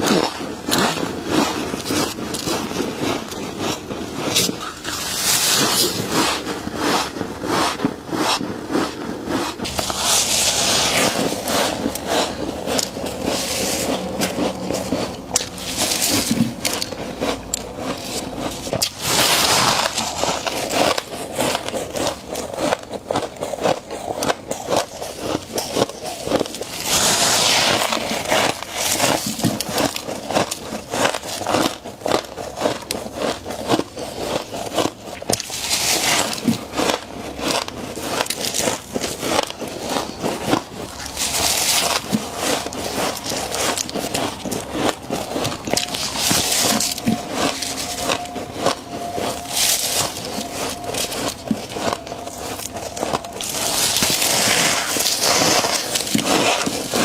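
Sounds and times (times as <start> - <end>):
frost crunching when chewed: 0.0 - 57.0.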